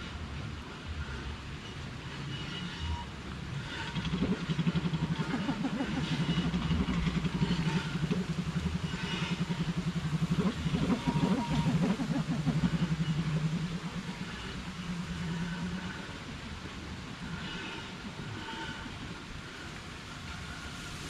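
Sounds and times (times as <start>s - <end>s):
small engine pulsing: 0.9s - 21.0s.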